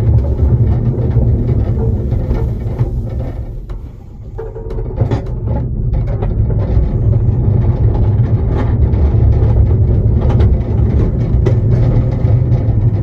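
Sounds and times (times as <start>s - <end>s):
clicks and knocks: 0.0s - 13.0s
railway coach wheels rumbling: 0.0s - 13.0s.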